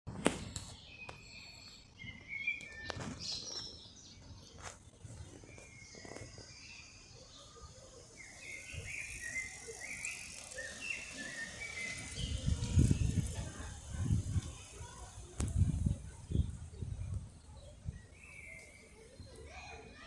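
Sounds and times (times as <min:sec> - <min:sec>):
birds chirping: 0:00.7 - 0:15.2, 0:16.2 - 0:20.0.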